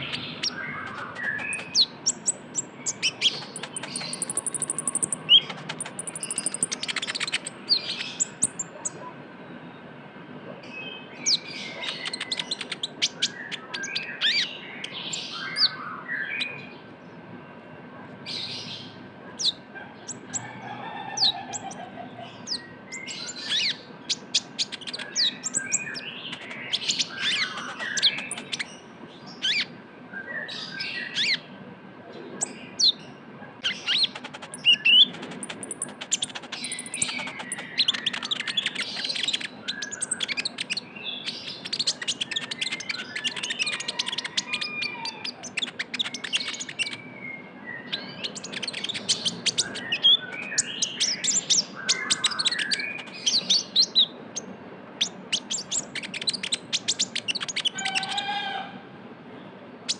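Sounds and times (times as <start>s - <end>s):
sunbird twittering and trilling: 0.0s - 9.8s, 10.7s - 16.9s, 18.3s - 31.5s, 32.2s - 58.6s.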